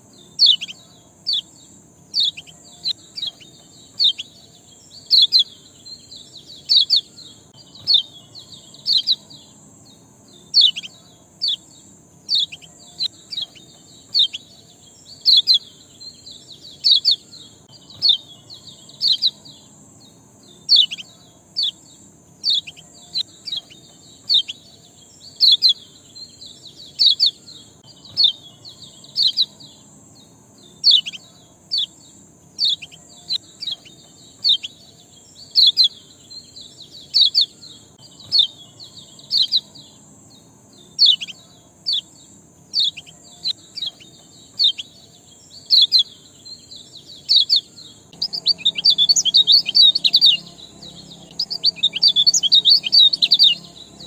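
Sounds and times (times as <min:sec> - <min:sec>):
small bird sharp chirps: 0:00.0 - 0:54.0.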